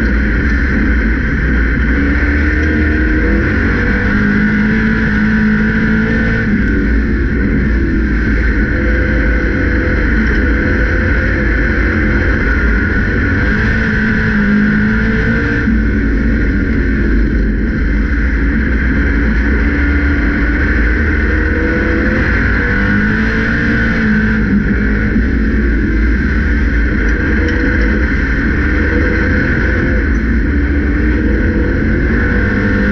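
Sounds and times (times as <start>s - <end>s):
race car engine drone: 0.0s - 32.9s
wind and track noise: 0.0s - 32.9s.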